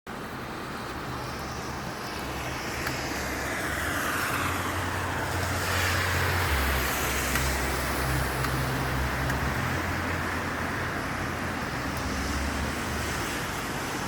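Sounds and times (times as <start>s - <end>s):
tyres hissing on wet road: 0.1s - 14.0s.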